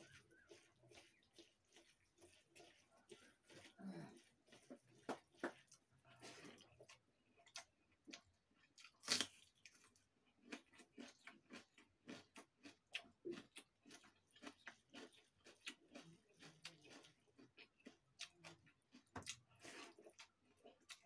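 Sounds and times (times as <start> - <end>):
wet chewing and crunching: 0.0 - 21.0.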